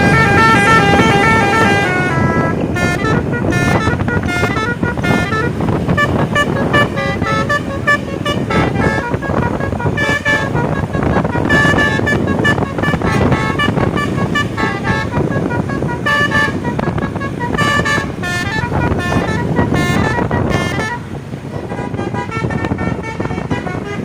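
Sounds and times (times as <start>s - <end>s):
bus multi-tone horn tune: 0.0s - 24.0s.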